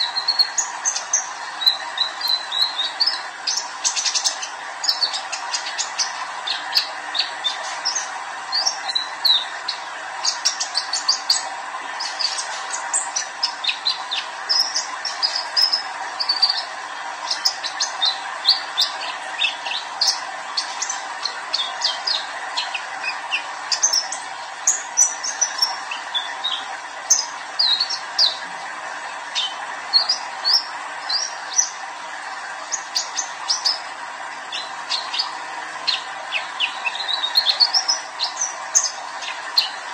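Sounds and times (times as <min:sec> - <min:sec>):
sunbird chirping: 0:00.0 - 0:28.4, 0:34.5 - 0:39.8.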